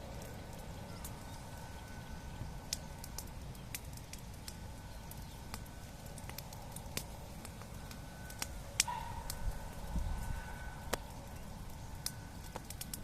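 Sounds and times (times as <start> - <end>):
bonfire crackling and popping: 0.0 - 13.0
low steady rumble: 0.0 - 13.0.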